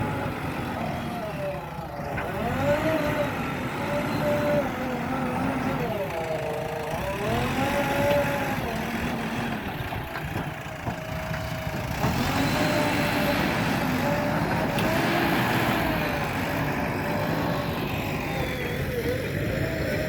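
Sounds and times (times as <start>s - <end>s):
digger diesel engine under load: 0.0s - 20.0s.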